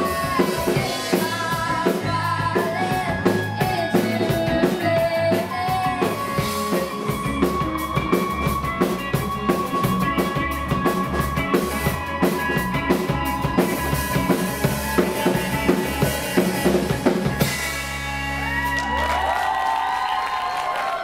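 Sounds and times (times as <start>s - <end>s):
drum kit beat: 0.0s - 18.8s
live rock band playing: 0.0s - 20.1s.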